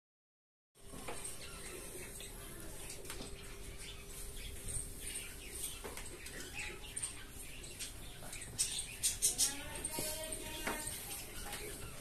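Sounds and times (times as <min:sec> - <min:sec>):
small birds chirping: 0:00.8 - 0:12.0.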